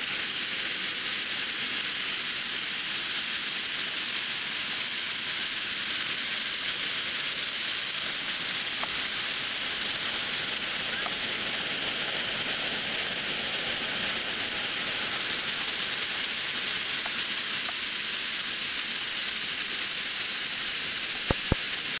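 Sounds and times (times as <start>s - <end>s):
waterfall rushing over rocks: 0.0s - 22.0s.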